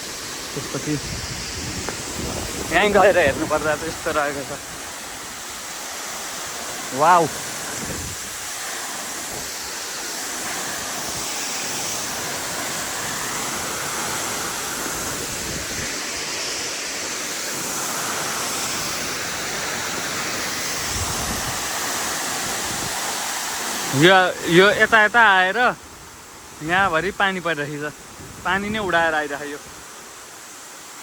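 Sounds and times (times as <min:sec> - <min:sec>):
waterfall: 0:00.0 - 0:31.0.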